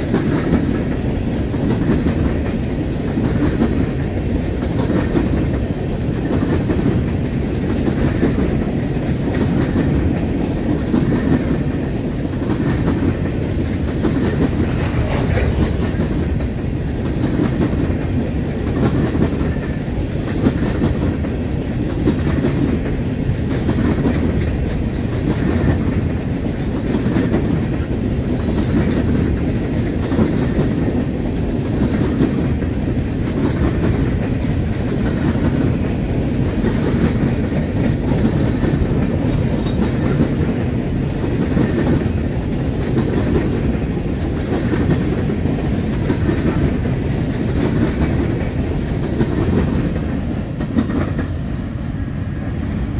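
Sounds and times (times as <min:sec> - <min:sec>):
clickety-clack over rail joints: 0:00.0 - 0:52.9
train wheels rumbling on rail: 0:00.0 - 0:52.9.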